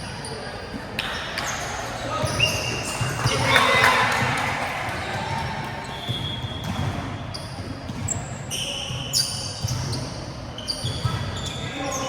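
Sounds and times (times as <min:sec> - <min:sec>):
sports shoes squeaking on court: 0:00.0 - 0:03.6, 0:05.1 - 0:12.0.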